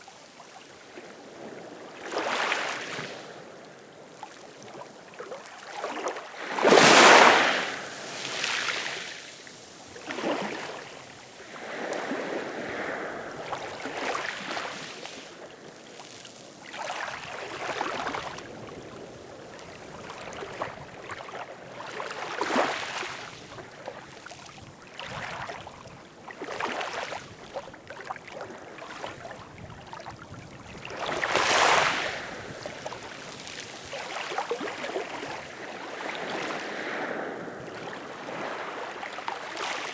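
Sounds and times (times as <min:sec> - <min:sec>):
ocean waves breaking on shore: 0:00.2 - 0:24.1, 0:25.0 - 0:39.9.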